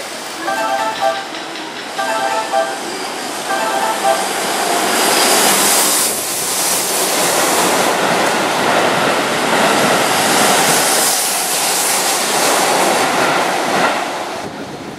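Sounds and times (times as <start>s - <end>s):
train rushing past: 0.0s - 14.9s.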